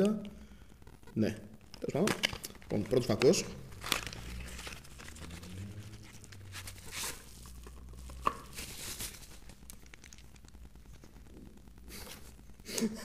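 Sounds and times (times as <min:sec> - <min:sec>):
bubble wrap and cardboard rustling: 0:01.7 - 0:12.6.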